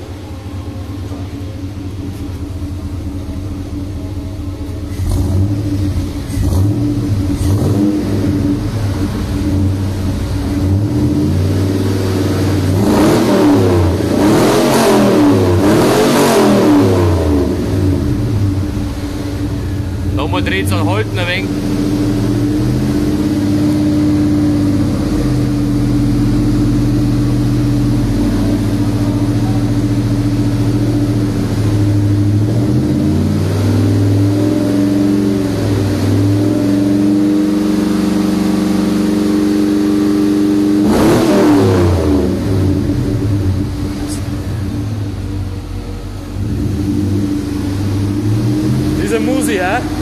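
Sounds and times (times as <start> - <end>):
engine idling and revving: 0.0 - 50.0.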